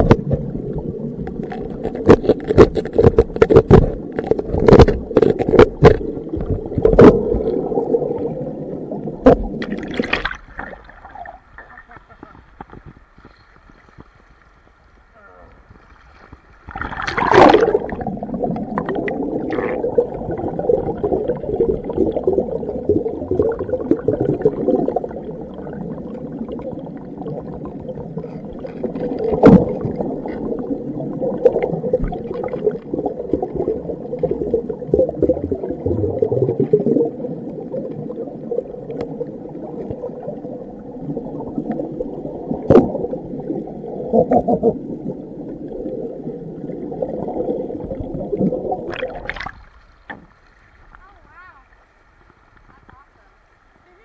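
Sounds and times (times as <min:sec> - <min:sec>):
underwater gurgling river: 0:00.0 - 0:54.0.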